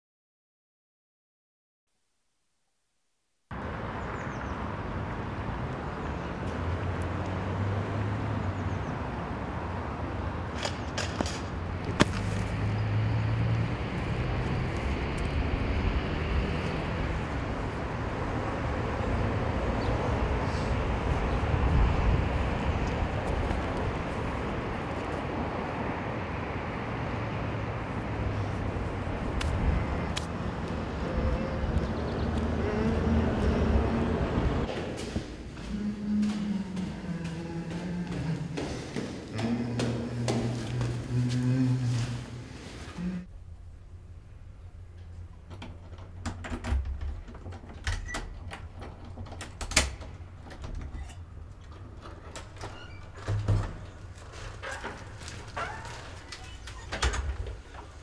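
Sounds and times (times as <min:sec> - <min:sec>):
distant city traffic: 0:03.5 - 0:58.0.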